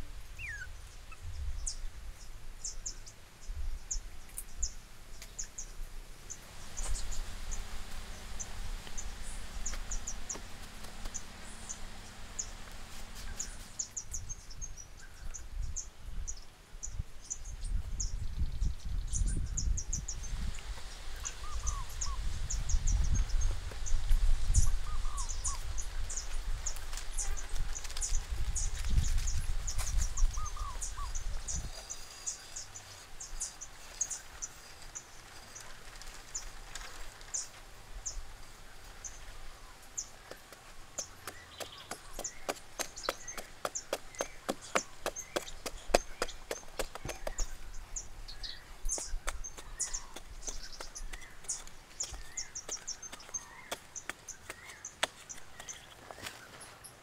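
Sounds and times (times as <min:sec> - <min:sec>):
birds chirping: 0:00.4 - 0:57.0.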